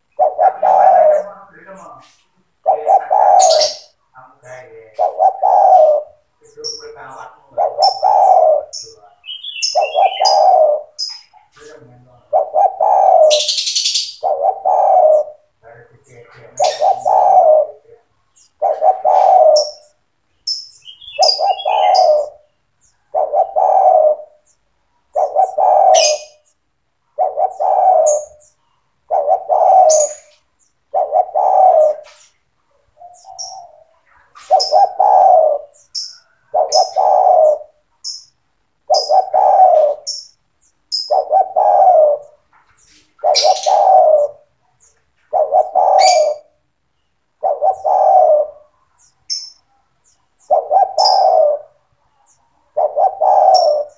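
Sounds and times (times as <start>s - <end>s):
dove cooing: 0.0s - 46.6s, 47.3s - 53.9s
small birds chirping: 0.0s - 53.9s.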